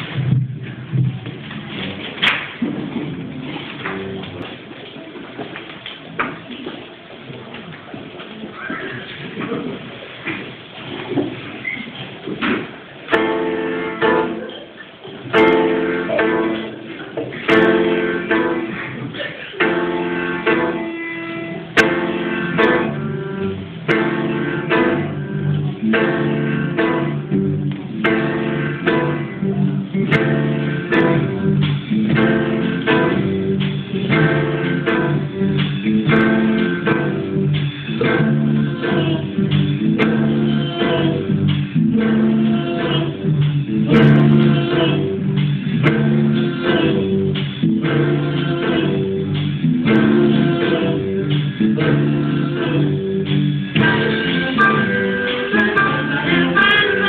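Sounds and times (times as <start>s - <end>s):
live band playing: 0.0s - 5.2s, 8.4s - 57.0s
guitars: 0.0s - 6.8s, 7.4s - 57.0s.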